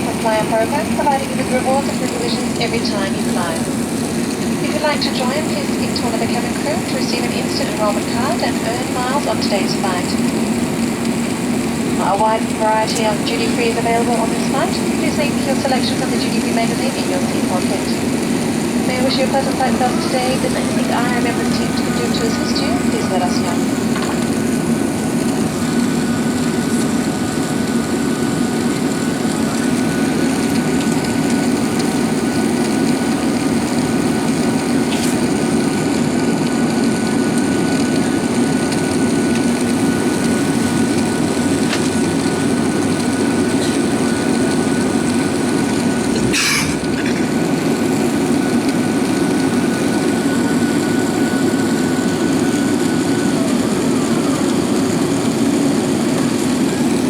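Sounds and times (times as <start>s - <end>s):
airliner cabin rumble: 0.0s - 57.0s
faint steady whine: 0.0s - 57.0s.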